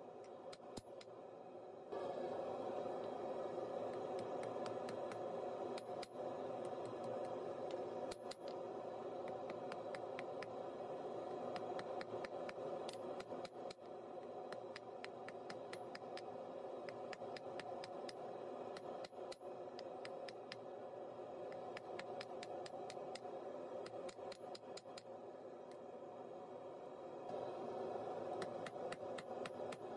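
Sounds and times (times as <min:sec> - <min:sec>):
steady rushing noise: 0:00.0 - 0:29.9.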